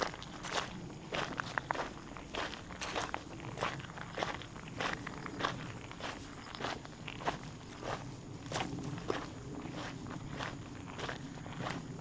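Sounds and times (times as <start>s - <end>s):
footsteps walking: 0.0s - 11.8s.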